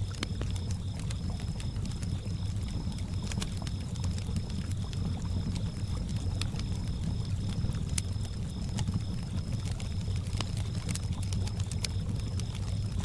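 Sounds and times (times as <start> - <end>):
campfire crackling and popping: 0.0 - 13.0
crickets chirping: 0.0 - 13.0.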